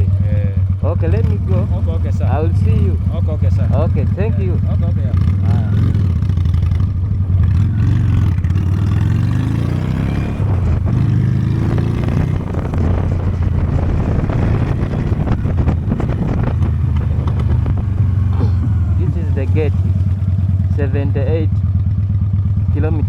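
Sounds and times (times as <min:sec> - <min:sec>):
motorcycle engine pulling away: 0:00.0 - 0:23.0.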